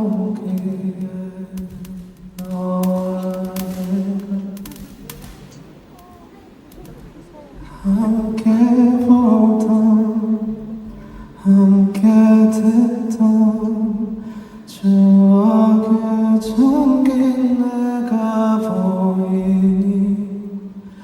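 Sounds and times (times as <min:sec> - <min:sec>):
man singing wordless melody: 0:00.0 - 0:05.3, 0:07.6 - 0:21.0
soft live accompaniment: 0:00.0 - 0:21.0.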